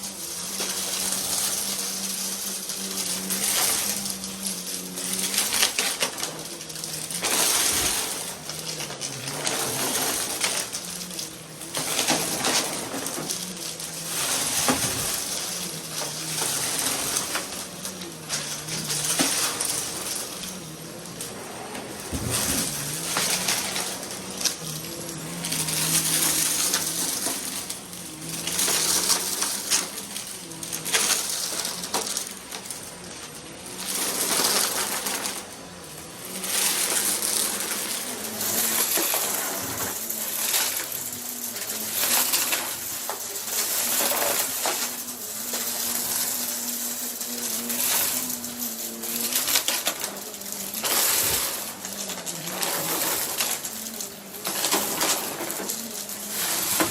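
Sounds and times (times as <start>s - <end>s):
vacuum cleaner on carpet: 0.0s - 56.9s.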